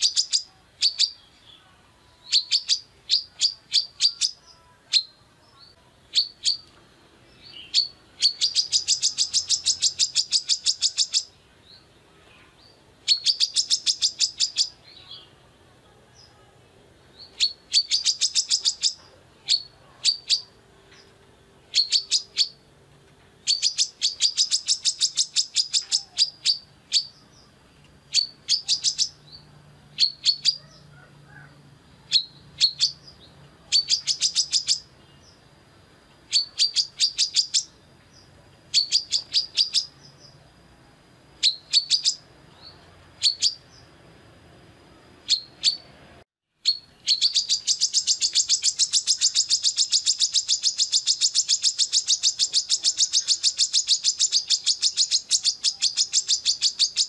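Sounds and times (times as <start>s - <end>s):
bird singing high sharp chirps: 0.0s - 15.4s, 17.1s - 22.7s, 23.4s - 35.6s, 36.3s - 40.5s, 41.4s - 44.0s, 45.2s - 46.0s, 46.6s - 57.0s.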